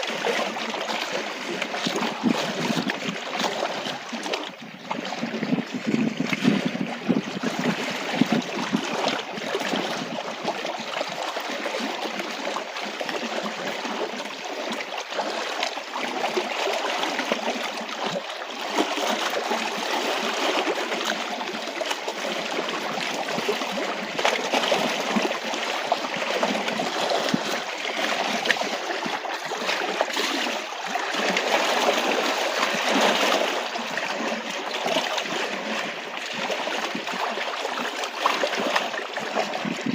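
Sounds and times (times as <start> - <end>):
small waves lapping on rocks: 0.0 - 39.9.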